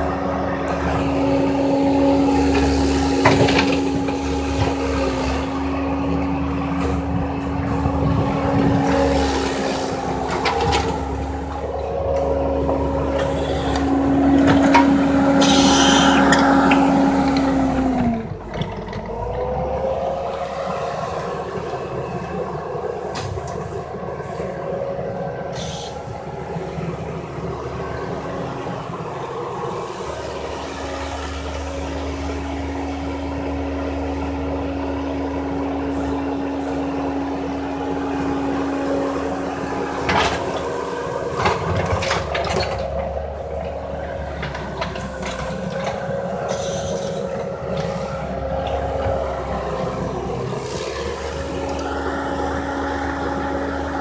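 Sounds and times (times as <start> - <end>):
diesel engine running with whine: 0.0 - 54.0.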